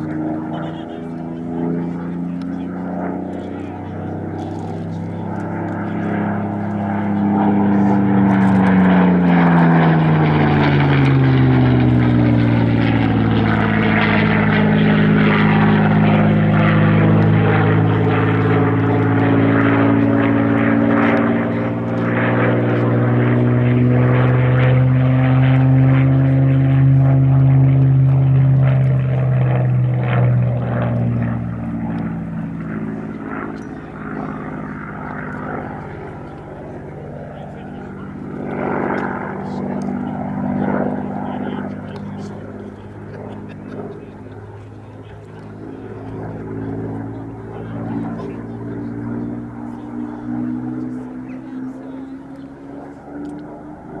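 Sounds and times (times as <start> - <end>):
aircraft engine passing by: 0.0 - 54.0.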